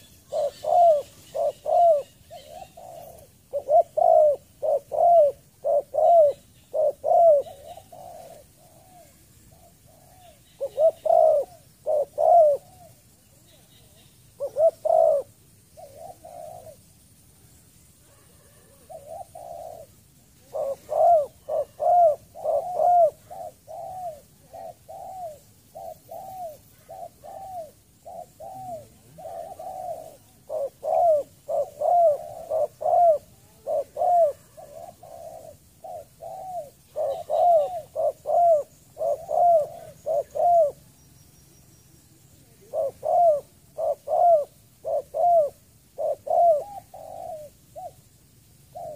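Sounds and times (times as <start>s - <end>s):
dove cooing: 0.0s - 17.0s, 18.0s - 40.9s, 42.3s - 48.9s.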